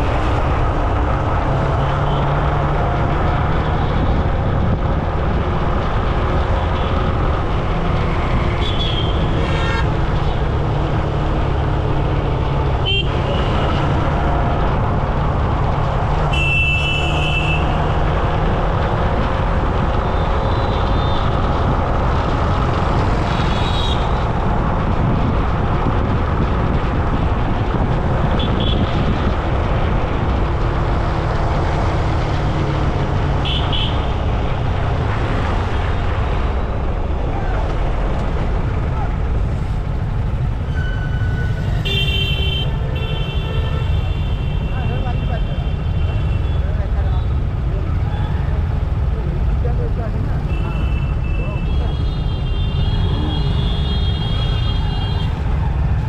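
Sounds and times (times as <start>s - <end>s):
traffic engines rumbling: 0.0s - 56.0s
wind: 0.0s - 56.0s.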